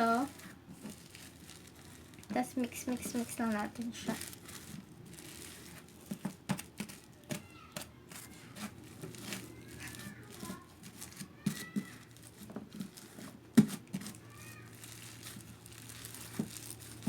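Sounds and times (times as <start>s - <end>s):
slime crackling and squelching: 0.0s - 17.0s.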